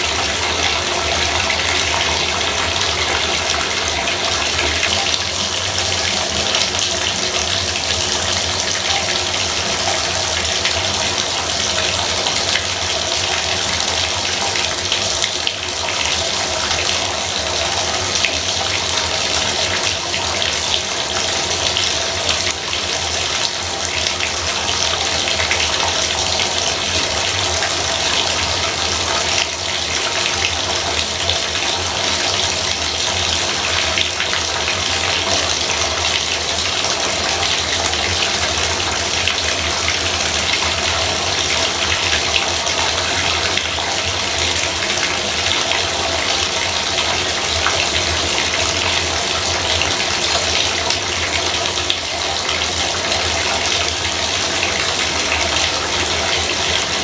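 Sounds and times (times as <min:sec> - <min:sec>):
faucet running into bathtub: 0:00.0 - 0:57.0.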